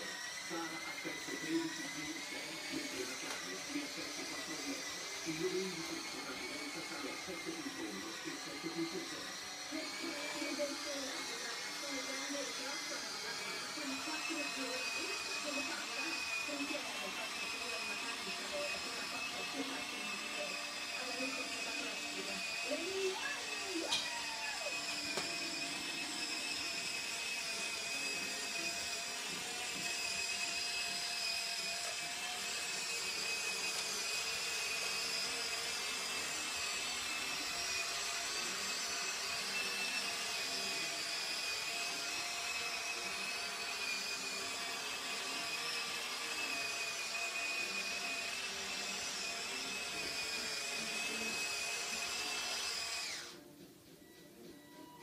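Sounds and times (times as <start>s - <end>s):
toy bulldozer motors whining: 0.0s - 53.4s.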